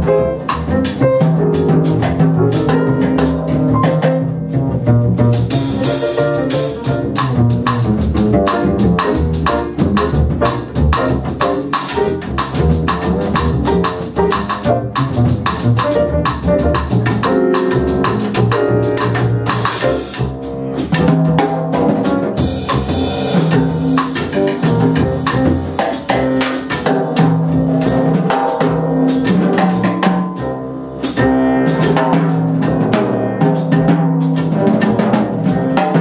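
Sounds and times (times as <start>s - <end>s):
drum kit with cymbals: 0.0s - 36.0s
grand piano: 0.0s - 36.0s
plucked double bass: 0.0s - 36.0s.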